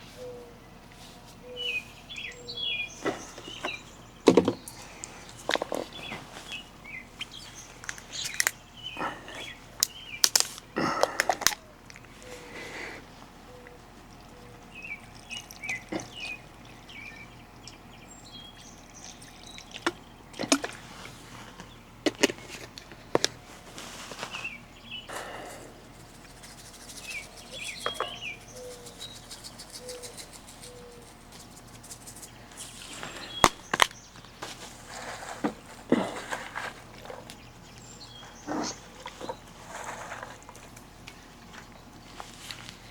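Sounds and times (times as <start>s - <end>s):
birds chirping: 0.0s - 42.9s
rustling and pouring noises: 2.9s - 17.4s, 18.6s - 42.9s.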